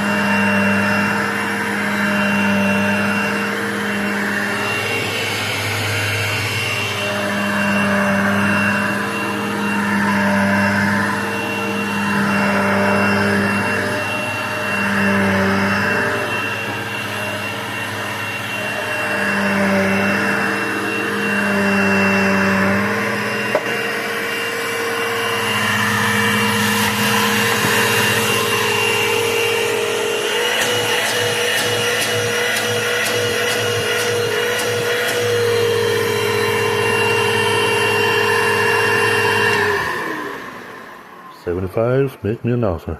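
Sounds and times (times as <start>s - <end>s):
vacuum cleaner running: 0.0s - 42.8s.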